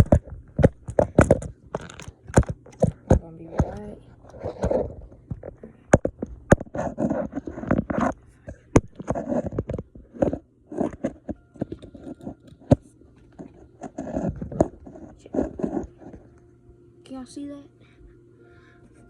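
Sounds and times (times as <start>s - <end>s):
plastic parts scraping and crunching: 0.0s - 16.2s.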